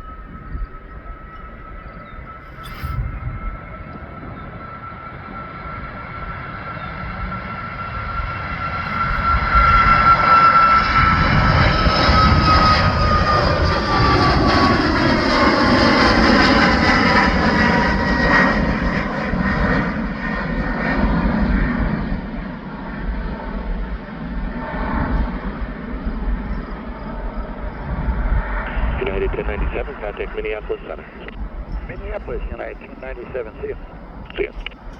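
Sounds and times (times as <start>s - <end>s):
jet engines whining at takeoff: 0.0s - 34.9s.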